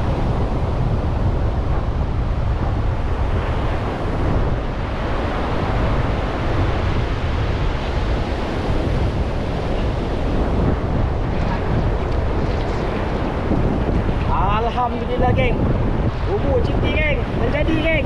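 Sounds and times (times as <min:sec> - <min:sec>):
ocean surf washing up beach: 0:00.0 - 0:18.0
wind buffeting microphone: 0:00.0 - 0:18.0.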